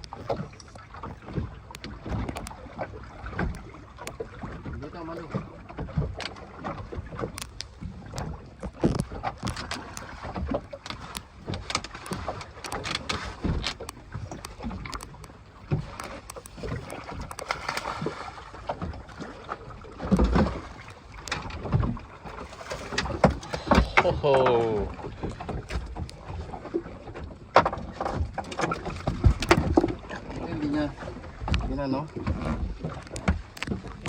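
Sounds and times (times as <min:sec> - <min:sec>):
knocks and clicks on boat: 0:00.0 - 0:34.0
water noise: 0:00.0 - 0:34.0
wind: 0:00.0 - 0:34.0.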